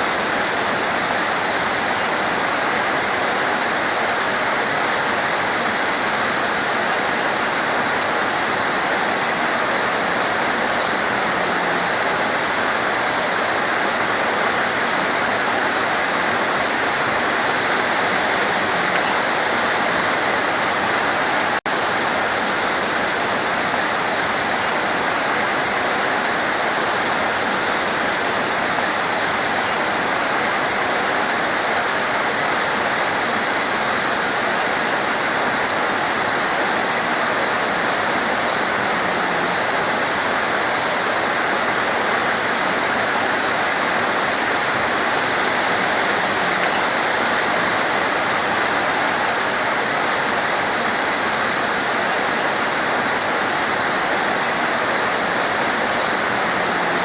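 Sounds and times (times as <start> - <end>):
heavy torrential rain: 0.0 - 57.0.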